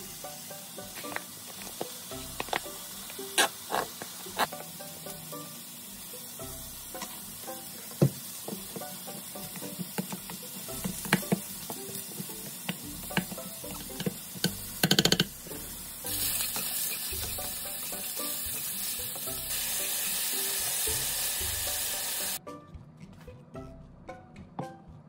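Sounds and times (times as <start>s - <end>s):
mushrooms sizzling in frying pan: 0.0s - 22.4s.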